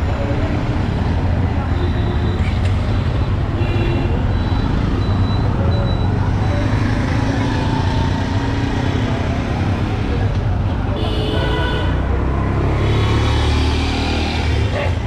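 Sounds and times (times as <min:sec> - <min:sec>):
dense traffic rumble: 0:00.0 - 0:15.0.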